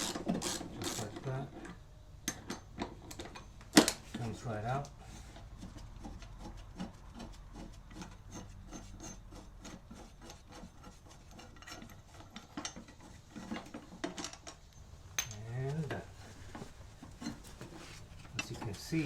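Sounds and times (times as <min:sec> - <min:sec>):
small metal clicks and scraping: 0:00.1 - 0:16.0, 0:17.0 - 0:19.0.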